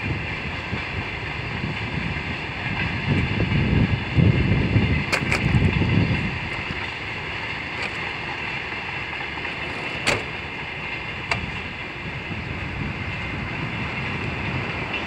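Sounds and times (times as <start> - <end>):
distant freight train rumbling: 0.0 - 15.0
wind buffeting microphone: 0.0 - 15.0.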